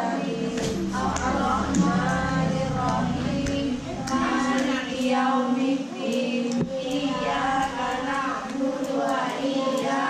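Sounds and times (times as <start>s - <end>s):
children singing together: 0.0s - 10.0s
women singing along: 0.0s - 10.0s.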